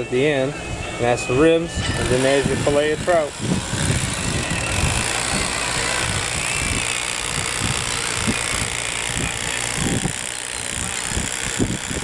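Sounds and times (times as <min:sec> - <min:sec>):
wind buffeting microphone: 0:01.7 - 0:12.0.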